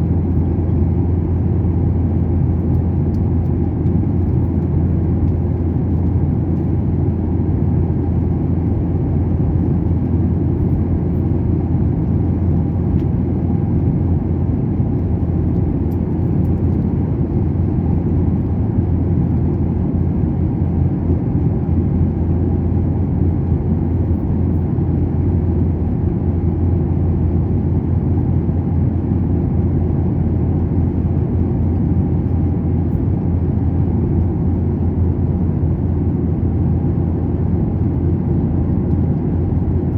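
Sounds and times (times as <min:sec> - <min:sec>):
jet cabin drone: 0:00.0 - 0:39.9.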